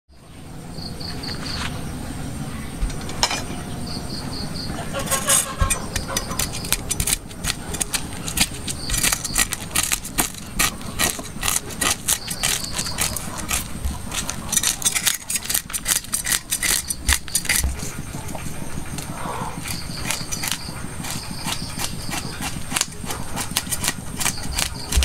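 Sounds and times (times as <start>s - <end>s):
cleaver scraping fish scales: 4.9s - 25.0s.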